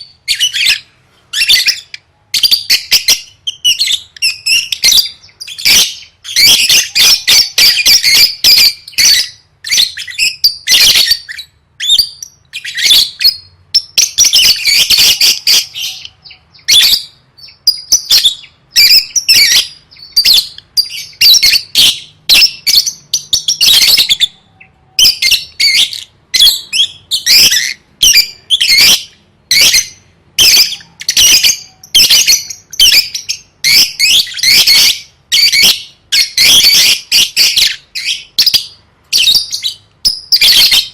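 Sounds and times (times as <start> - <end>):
lovebird chattering and squawking: 0.0 - 40.9.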